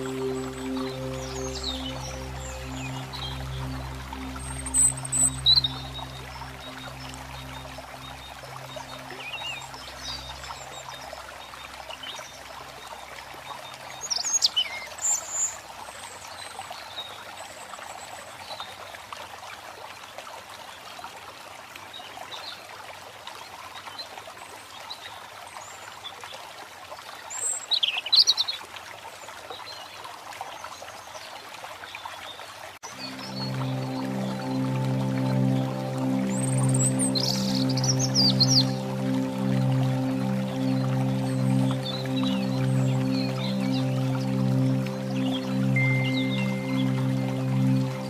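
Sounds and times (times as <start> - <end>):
flowing water rushing: 0.0 - 48.0.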